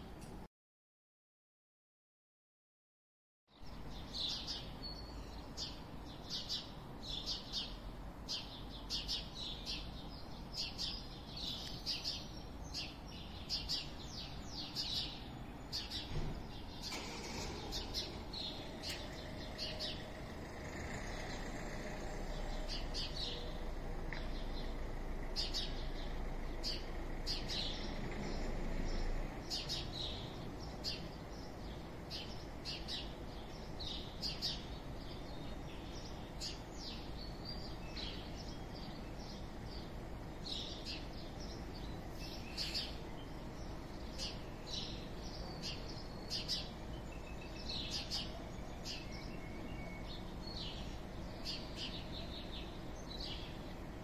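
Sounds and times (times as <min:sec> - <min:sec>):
low rumble of town background: 0:00.0 - 0:00.5, 0:03.5 - 0:54.0
small birds chirping: 0:03.5 - 0:54.0.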